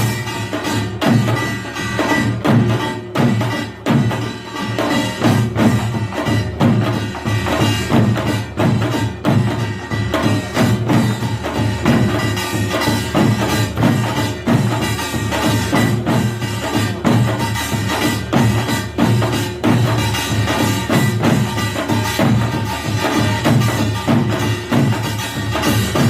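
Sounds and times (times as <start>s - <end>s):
gongs and drums playing: 0.0s - 26.0s.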